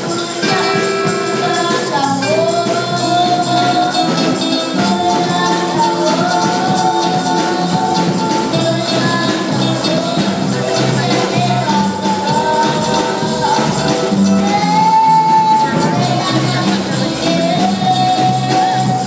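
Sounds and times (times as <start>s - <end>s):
steady bass: 0.0s - 19.0s
tambourine shaking: 0.0s - 19.0s
worship band playing: 0.0s - 19.0s.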